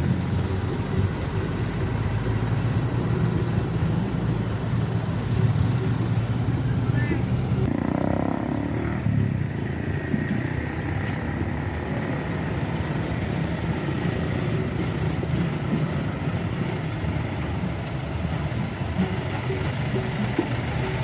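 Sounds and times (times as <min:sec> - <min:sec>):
heavy truck engine running: 0:00.0 - 0:21.0.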